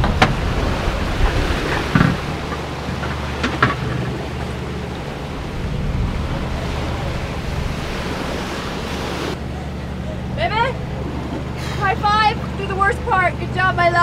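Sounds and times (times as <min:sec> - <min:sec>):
steady low hum: 0:00.0 - 0:14.0
wind and breaking sea: 0:00.0 - 0:14.0
wind buffeting microphone: 0:00.0 - 0:14.0.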